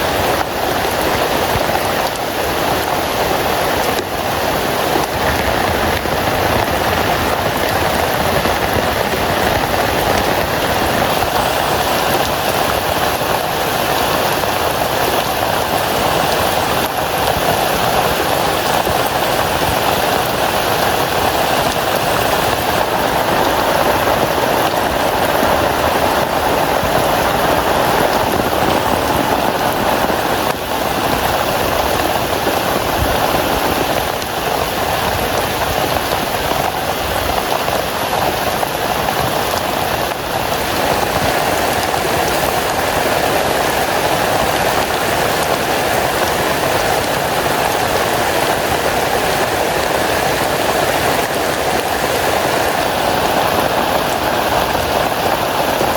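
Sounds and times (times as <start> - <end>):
heavy rain on a tent: 0.0 - 55.9.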